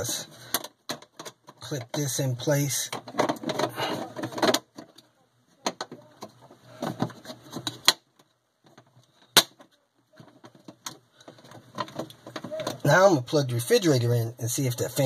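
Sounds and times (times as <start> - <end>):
plastic rustling and scraping: 0.0 - 13.0.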